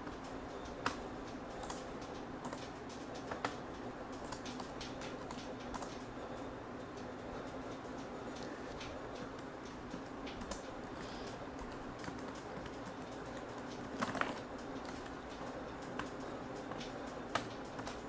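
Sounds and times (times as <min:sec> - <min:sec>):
computer keyboard typing: 0:00.0 - 0:06.1, 0:07.4 - 0:18.0.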